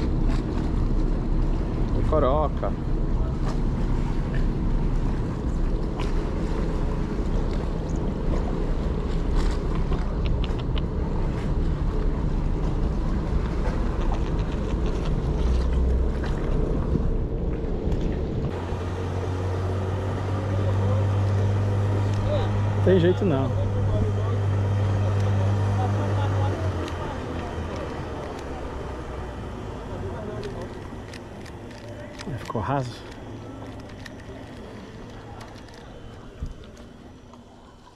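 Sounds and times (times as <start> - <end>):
deep strong hum: 0.0 - 37.1
low mechanical drone: 0.0 - 37.9.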